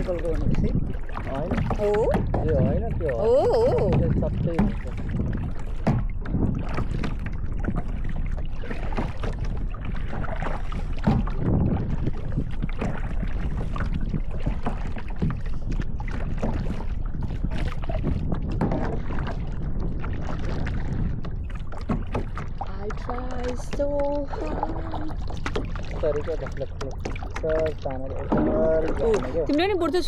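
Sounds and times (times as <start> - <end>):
paddle splashing in water: 0.0 - 30.0
wind rumble on microphone: 0.0 - 30.0.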